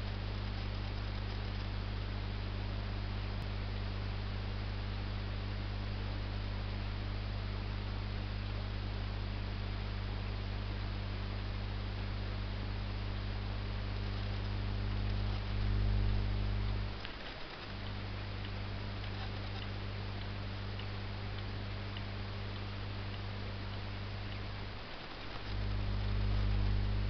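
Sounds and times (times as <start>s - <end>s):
mains hum: 0.0s - 27.0s.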